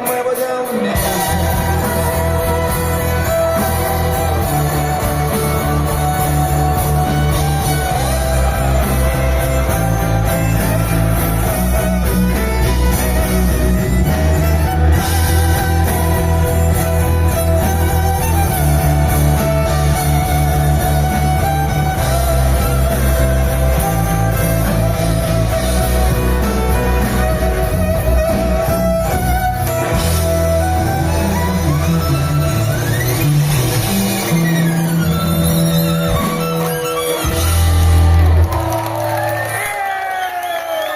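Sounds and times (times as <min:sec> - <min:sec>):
guitar: 0:00.0 - 0:40.9
bass notes: 0:01.0 - 0:38.8.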